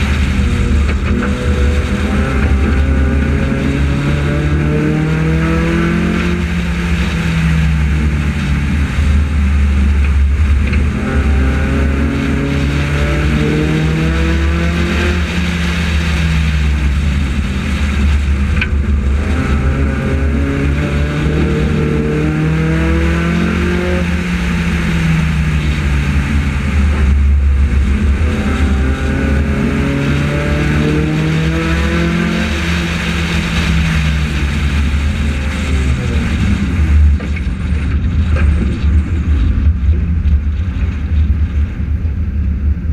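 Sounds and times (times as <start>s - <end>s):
race car engine under load: 0.0s - 42.9s.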